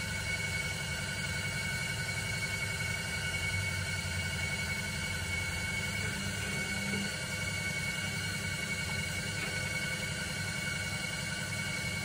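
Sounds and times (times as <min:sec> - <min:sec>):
pottery wheel humming: 0:00.0 - 0:12.0.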